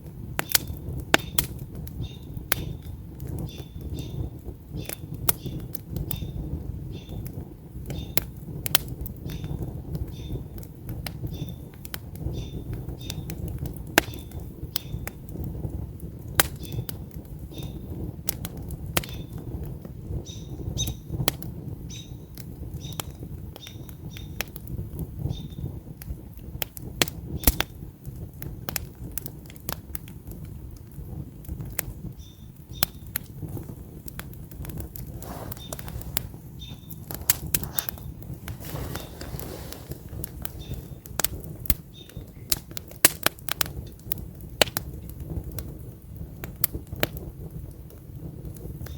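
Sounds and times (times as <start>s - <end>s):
low rush of flame: 0.0s - 23.6s, 24.4s - 48.9s
campfire crackling and popping: 0.0s - 48.9s.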